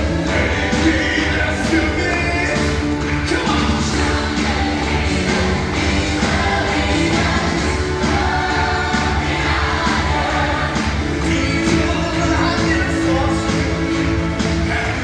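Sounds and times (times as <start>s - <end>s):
amplified live band: 0.0s - 15.0s
ensemble singing: 0.0s - 15.0s.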